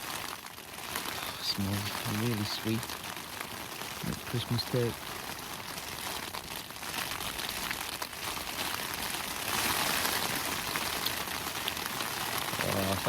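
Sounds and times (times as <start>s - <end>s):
heavy rain on a tent: 0.0s - 13.0s.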